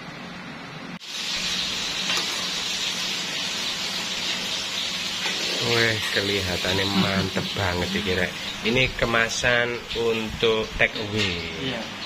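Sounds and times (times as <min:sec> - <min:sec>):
food sizzling: 0:01.0 - 0:12.0.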